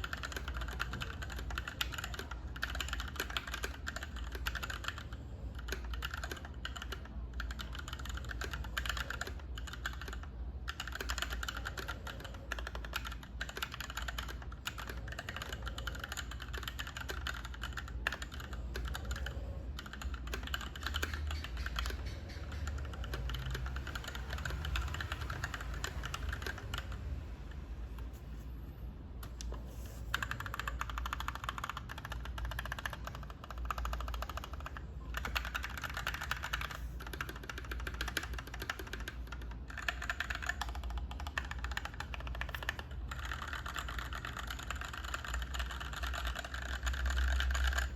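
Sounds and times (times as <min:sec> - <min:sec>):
fast typing on mechanical keyboard: 0:00.0 - 0:27.3, 0:29.8 - 0:47.9.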